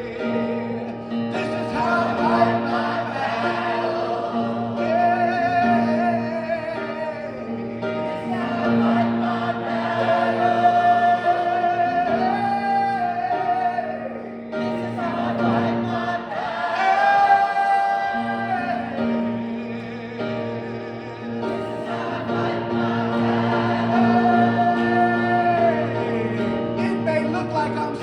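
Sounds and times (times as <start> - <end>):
group singing worship song: 0.0 - 27.1.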